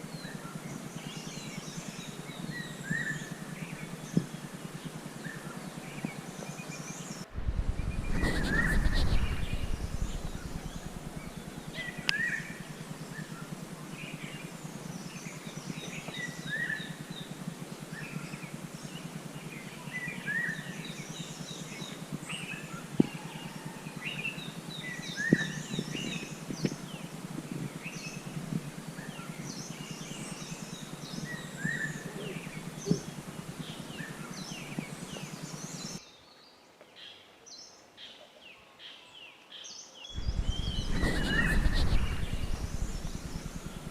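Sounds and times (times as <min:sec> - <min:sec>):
low background noise: 0:00.0 - 0:43.9.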